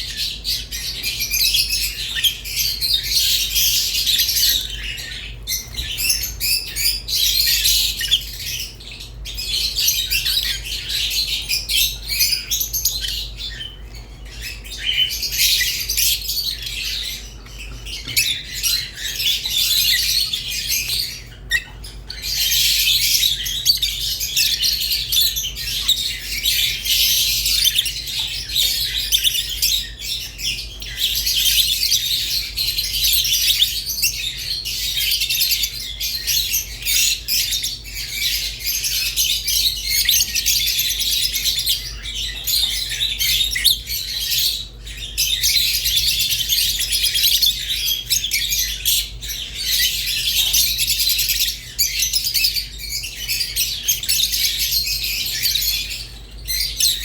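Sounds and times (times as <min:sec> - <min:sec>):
lovebirds chattering and chirping: 0:00.0 - 0:57.0.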